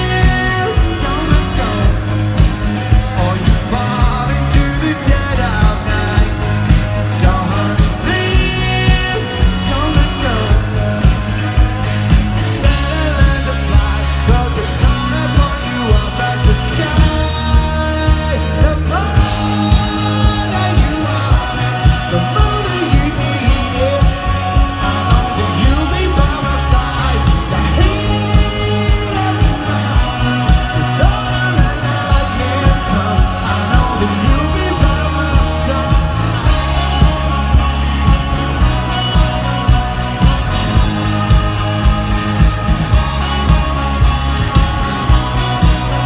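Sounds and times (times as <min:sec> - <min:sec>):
live rock band: 0:00.0 - 0:46.0
man singing: 0:00.0 - 0:46.0.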